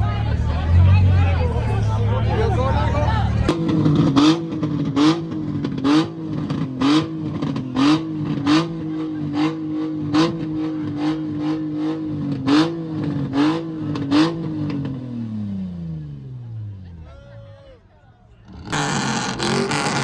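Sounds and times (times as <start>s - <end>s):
vehicle engine revving high: 0.0s - 16.8s, 18.4s - 20.0s.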